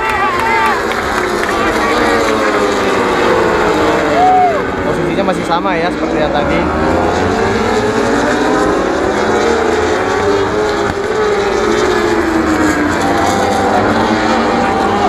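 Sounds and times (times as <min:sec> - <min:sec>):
racing motorcycles passing at high revs: 0:00.0 - 0:15.0.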